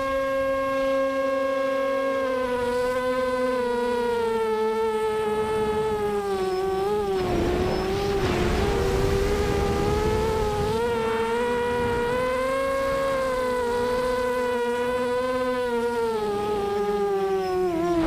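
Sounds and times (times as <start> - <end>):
quadcopter motors buzzing whine: 0.0 - 18.0.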